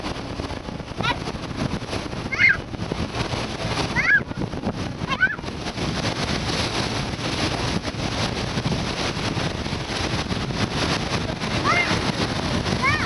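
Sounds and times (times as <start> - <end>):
sea noise: 0.0 - 13.0
wind buffeting microphone: 0.0 - 13.0.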